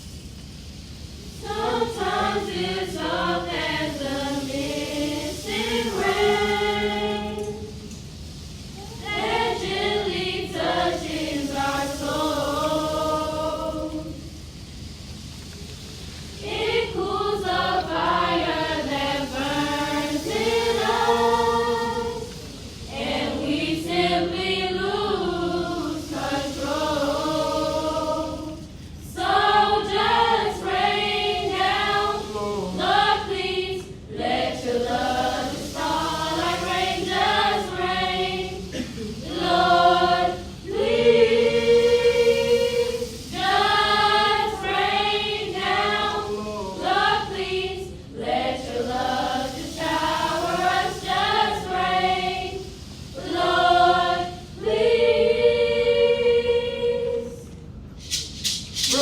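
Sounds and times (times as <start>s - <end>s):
children's choir singing: 1.3s - 8.0s, 8.8s - 14.4s, 16.2s - 59.0s.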